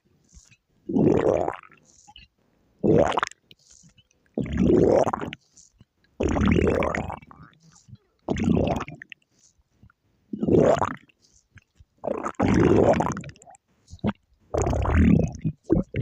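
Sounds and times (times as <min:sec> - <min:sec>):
stomach growling: 0:00.2 - 0:16.0.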